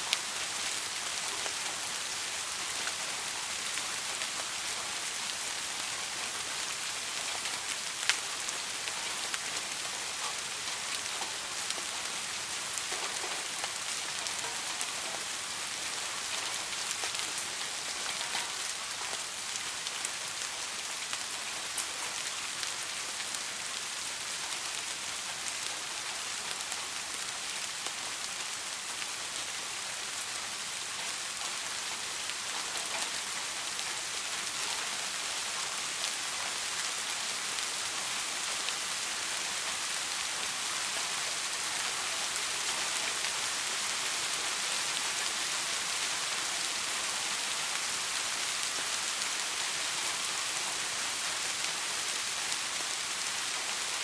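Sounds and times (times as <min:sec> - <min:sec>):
soft rain falling: 0:00.0 - 0:54.0.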